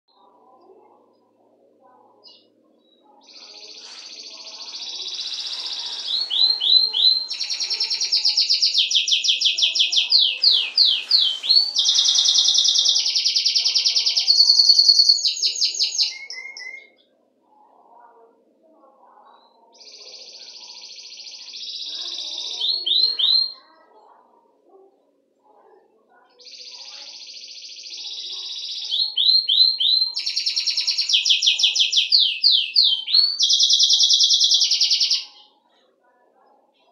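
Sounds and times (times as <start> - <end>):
canary singing trills: 0.1 - 24.8, 25.5 - 36.9.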